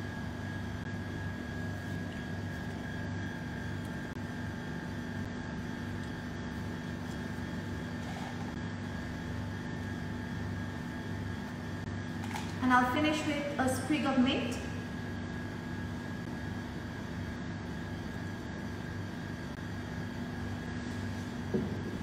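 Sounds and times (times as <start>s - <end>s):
machine hum with whine: 0.0s - 22.0s.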